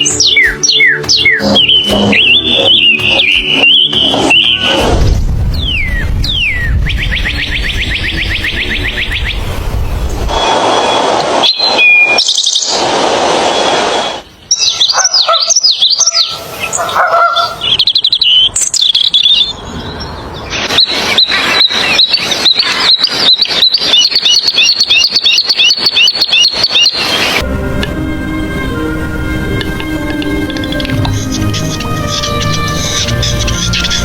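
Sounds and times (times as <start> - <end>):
birds chirping and singing: 0.0 - 10.0, 14.3 - 27.4, 29.5 - 34.0.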